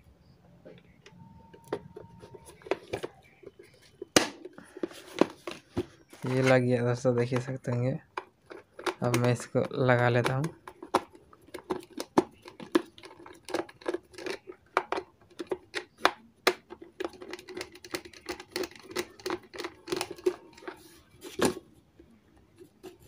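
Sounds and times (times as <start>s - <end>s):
small parts clicking and tapping: 0.8s - 20.8s.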